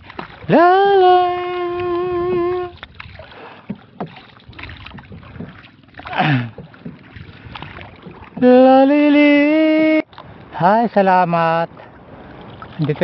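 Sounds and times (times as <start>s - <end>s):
paddle swishing water: 0.0s - 13.0s.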